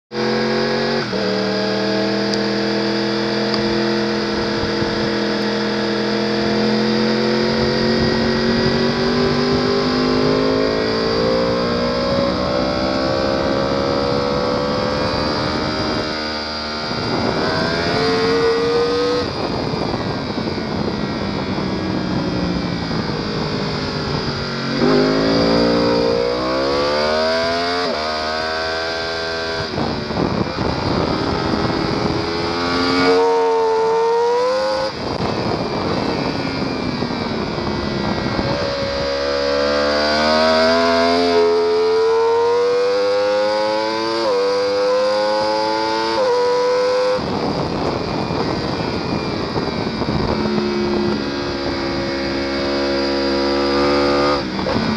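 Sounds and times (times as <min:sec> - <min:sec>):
motorcycle engine revving: 0:00.1 - 0:54.9.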